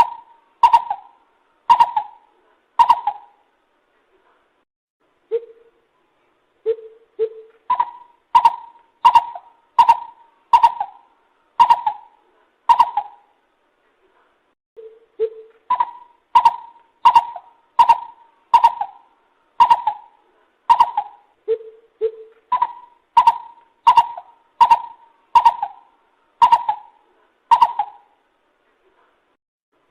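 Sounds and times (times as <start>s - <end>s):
bird hooting calls: 0.0s - 3.4s, 5.3s - 5.8s, 6.6s - 13.3s, 14.8s - 28.2s.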